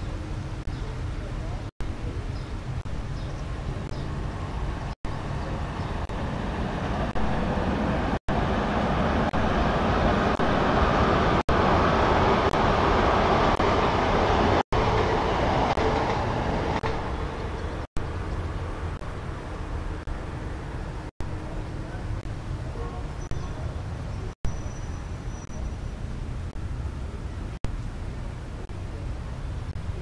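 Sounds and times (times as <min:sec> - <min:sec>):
ship engine and water rush: 0:00.0 - 0:30.0.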